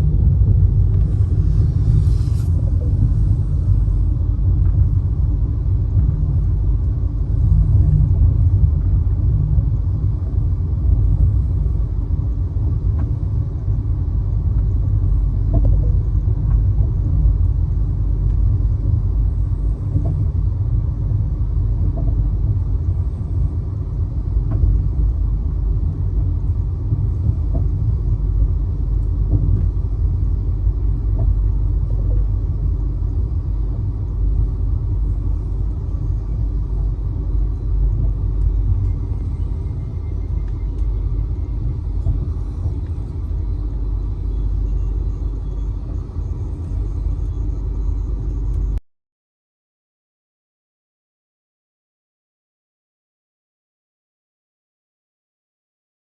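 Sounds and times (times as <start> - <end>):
train rumbling on track: 0.0 - 48.8.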